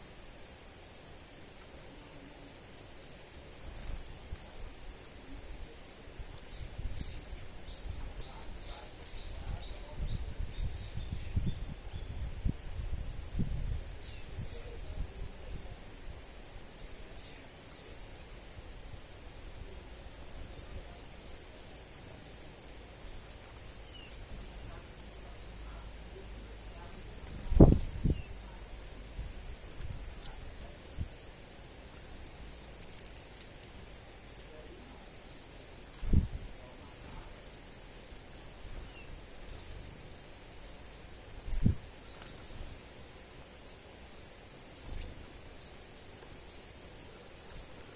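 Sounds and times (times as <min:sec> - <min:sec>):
small birds chirping: 0:00.0 - 0:47.9
steady background hiss: 0:00.0 - 0:47.9.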